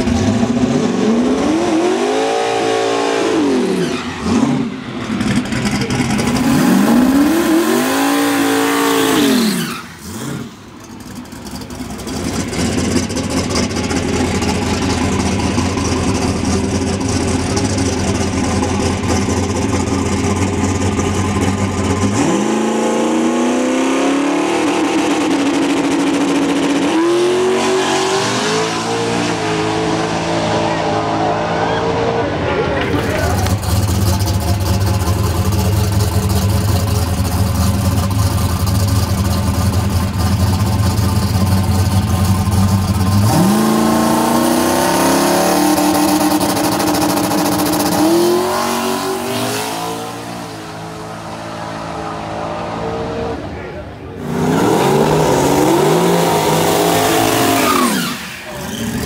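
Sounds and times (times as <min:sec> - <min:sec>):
car engine revving loudly: 0:00.0 - 0:10.6, 0:12.0 - 0:39.0, 0:41.9 - 0:59.0.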